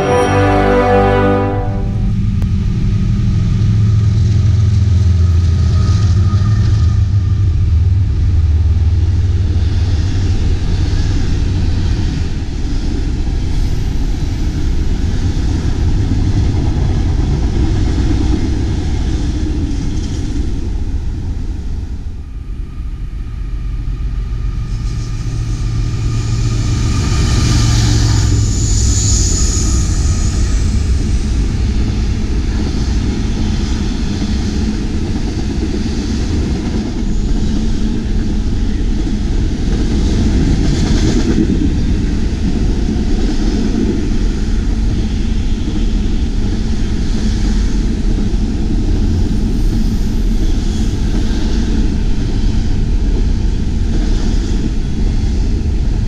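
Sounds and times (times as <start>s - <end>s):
diesel locomotive: 0.0s - 56.0s
train wheels rumbling on rail: 0.0s - 56.0s.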